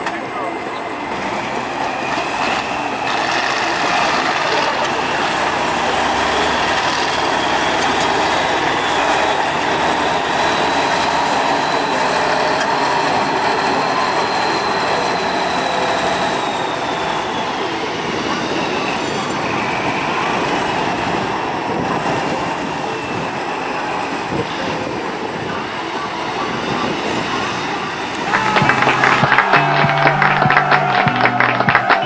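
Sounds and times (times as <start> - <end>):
truck diesel engine under load: 0.0 - 32.0.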